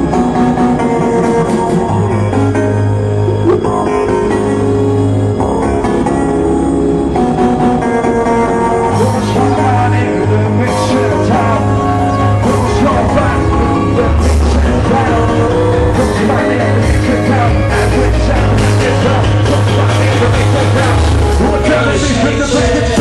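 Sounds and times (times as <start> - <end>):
breakbeat electronic music: 0.0 - 23.0.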